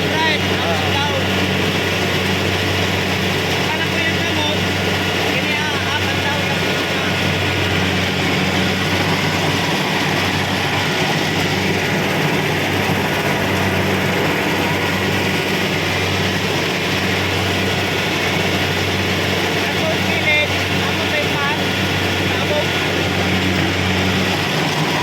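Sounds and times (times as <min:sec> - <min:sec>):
combine harvester engine drone: 0:00.0 - 0:25.0
rushing mechanical noise: 0:00.0 - 0:25.0.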